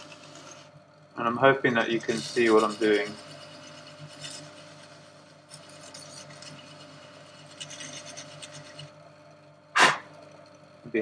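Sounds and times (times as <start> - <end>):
lathe motor humming: 0.0 - 10.9.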